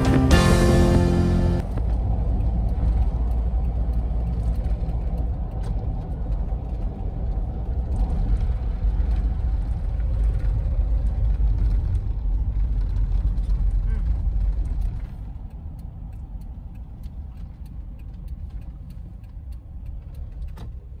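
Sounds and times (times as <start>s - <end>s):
engine and road noise: 0.0s - 21.0s.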